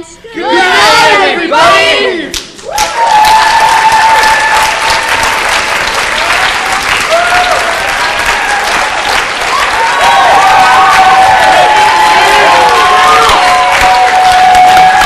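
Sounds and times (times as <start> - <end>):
voices cheering: 0.4 - 15.0
audience applauding: 2.3 - 15.0.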